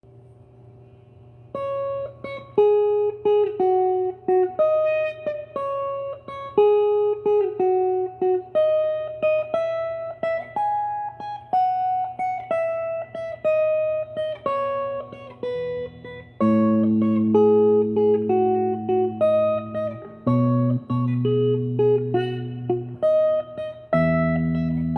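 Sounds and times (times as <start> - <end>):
electric guitar chords: 1.5 - 24.9
electric guitar single picked notes: 1.5 - 24.9.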